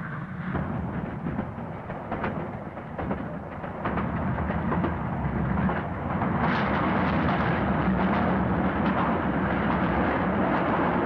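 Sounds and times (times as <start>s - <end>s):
steam train rumbling: 0.0s - 11.0s.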